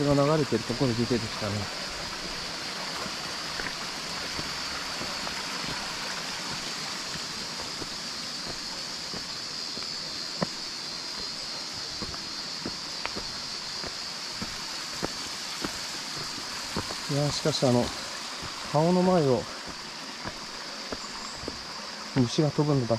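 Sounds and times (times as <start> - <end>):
stream rushing water: 0.0 - 22.9.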